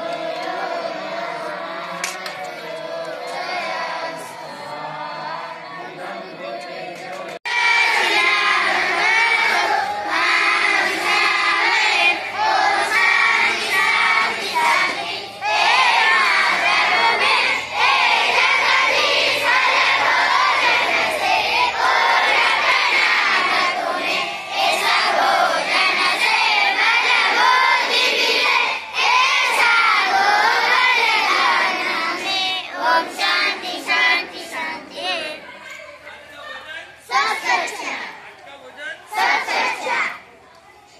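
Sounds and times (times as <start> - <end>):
boys singing in unison: 0.0 - 35.4, 37.1 - 38.2, 39.1 - 40.2.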